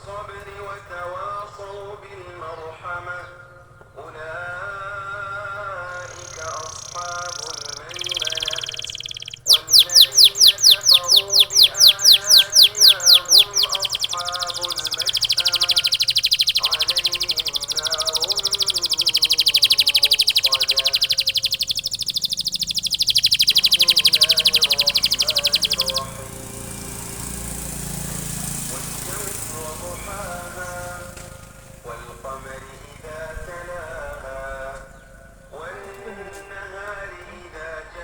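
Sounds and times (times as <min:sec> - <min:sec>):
canary singing: 0:05.6 - 0:38.0
faint melodic voice: 0:05.6 - 0:38.0.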